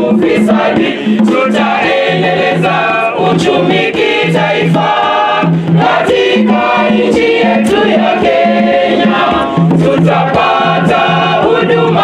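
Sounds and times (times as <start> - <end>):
choir singing in parts: 0.0 - 12.0
conga drum beats: 0.0 - 12.0.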